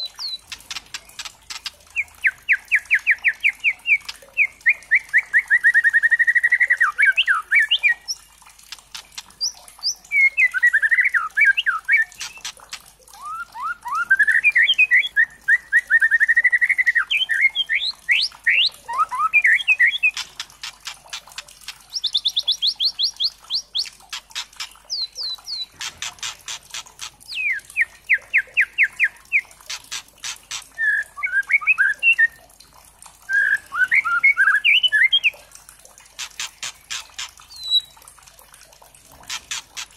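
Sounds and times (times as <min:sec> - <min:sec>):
bird calling with fast trills: 0:00.0 - 0:32.4, 0:33.3 - 0:35.4, 0:36.2 - 0:38.0, 0:39.2 - 0:39.9.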